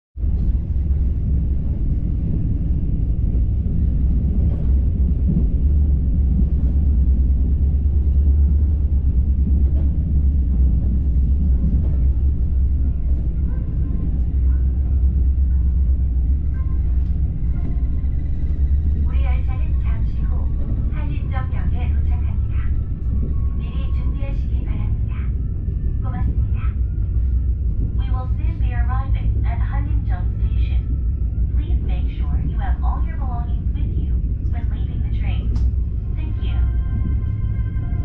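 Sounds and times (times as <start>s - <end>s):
train rumbling on track: 0.2s - 38.0s.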